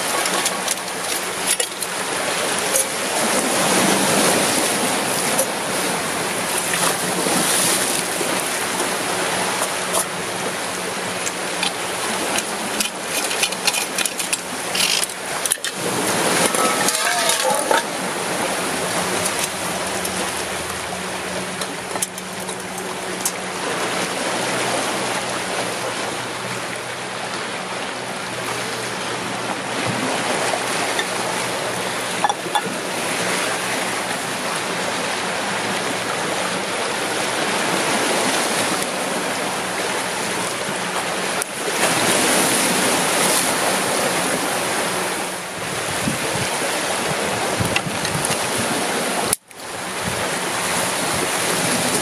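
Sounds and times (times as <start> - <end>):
waves washing over rocks: 0.0 - 52.0.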